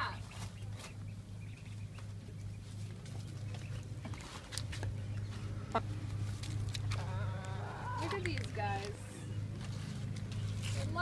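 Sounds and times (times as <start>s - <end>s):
poultry clucking and peeping: 0.0s - 11.0s
steady low hum: 0.0s - 11.0s.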